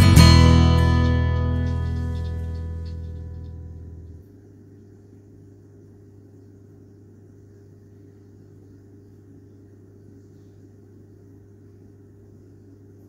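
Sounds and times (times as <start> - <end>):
aquarium filter pump hum: 0.0 - 13.0.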